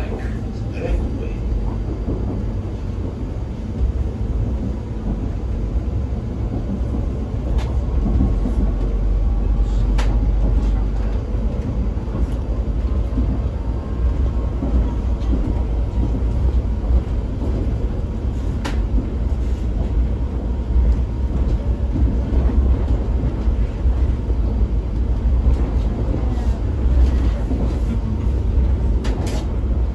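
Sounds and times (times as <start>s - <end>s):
train rumble from inside carriage: 0.0s - 29.9s.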